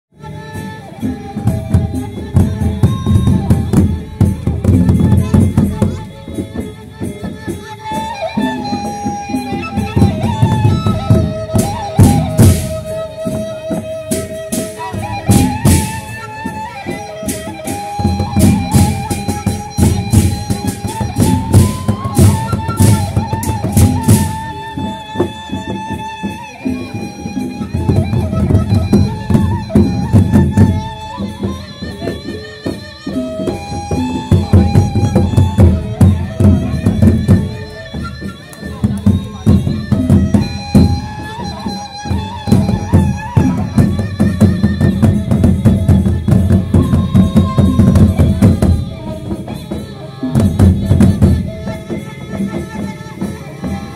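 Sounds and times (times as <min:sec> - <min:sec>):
heavy drumming on large drums: 0:00.4 - 0:32.3, 0:33.1 - 0:53.9.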